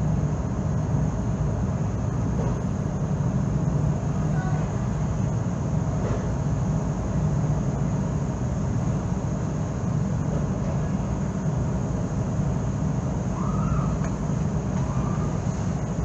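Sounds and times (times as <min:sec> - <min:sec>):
low ferry engine rumble: 0:00.0 - 0:16.0.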